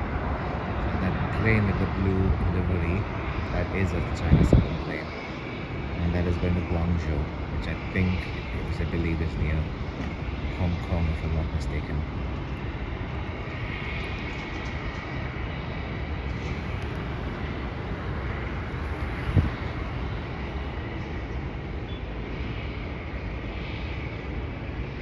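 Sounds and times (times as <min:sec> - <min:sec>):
distant jet engines rumbling: 0:00.0 - 0:25.0.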